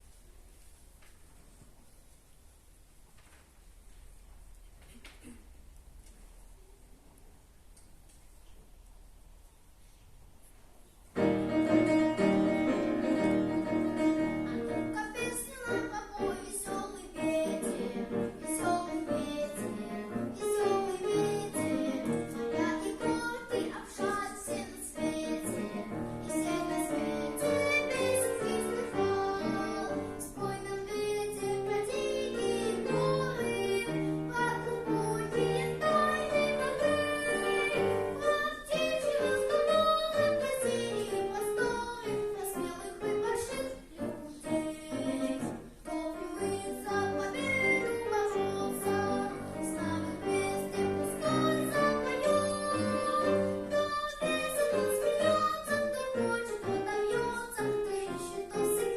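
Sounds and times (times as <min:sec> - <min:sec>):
boy singing classical style: 0:11.2 - 0:58.9.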